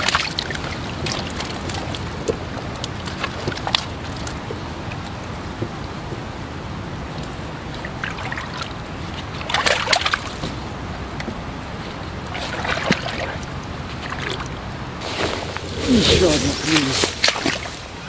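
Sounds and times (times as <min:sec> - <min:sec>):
low background noise: 0:00.0 - 0:18.0
water splashing and sloshing: 0:00.0 - 0:18.0.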